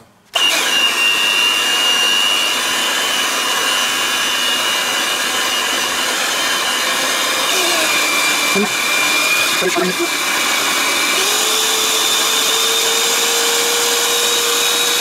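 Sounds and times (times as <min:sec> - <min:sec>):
electric hand mixer whining: 0:00.3 - 0:15.0.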